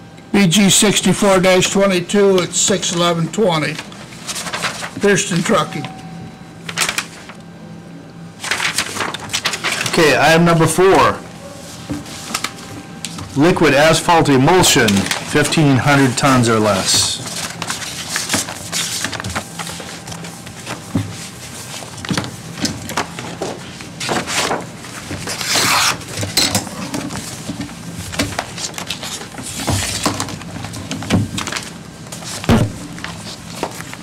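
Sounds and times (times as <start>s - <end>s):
paper rustling: 3.6s - 5.9s, 6.7s - 7.4s, 8.4s - 10.2s, 10.9s - 34.0s.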